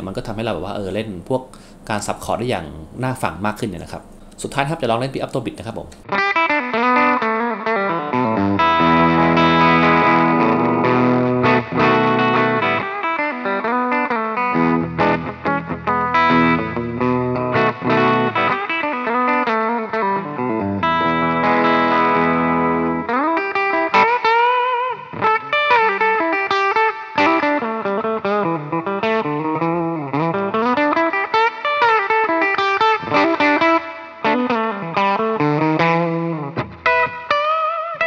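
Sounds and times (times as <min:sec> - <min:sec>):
electric guitar playing: 0:00.0 - 0:38.0.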